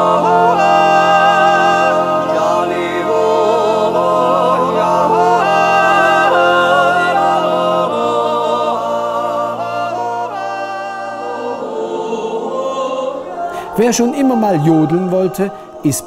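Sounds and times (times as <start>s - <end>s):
voices holding a chord: 0.0s - 16.0s
wordless yodel melody: 0.0s - 16.0s.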